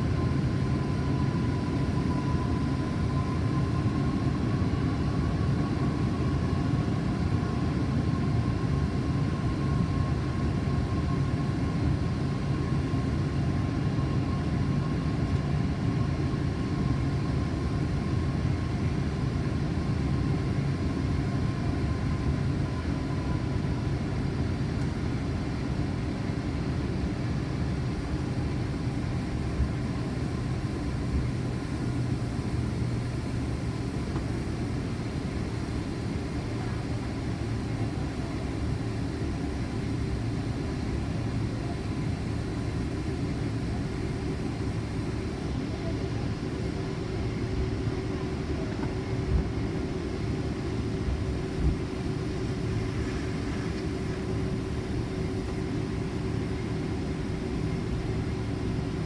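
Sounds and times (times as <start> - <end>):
faint steady whine: 0.0 - 59.0
jet engine hum: 0.0 - 59.0.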